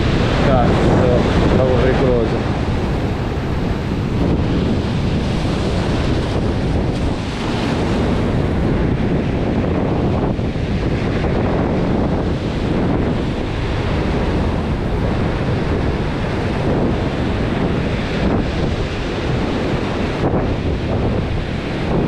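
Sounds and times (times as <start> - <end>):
surf breaking on rocks: 0.0 - 22.0
wind buffeting microphone: 0.0 - 22.0.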